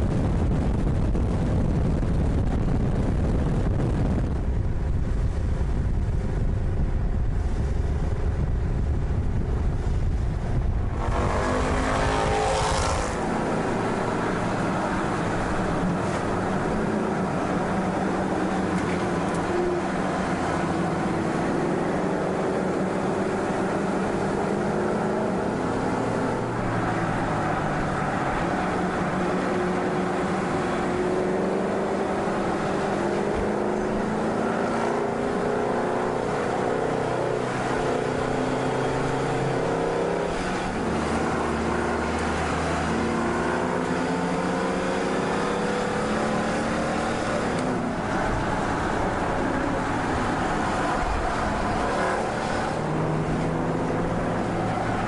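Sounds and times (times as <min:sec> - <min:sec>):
car engine revving: 0:09.1 - 0:55.0.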